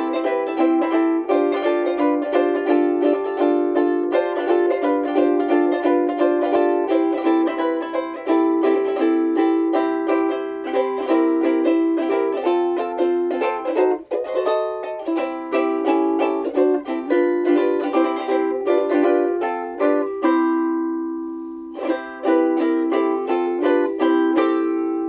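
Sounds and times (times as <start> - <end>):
ukulele plucked notes and chords: 0.0 - 25.0.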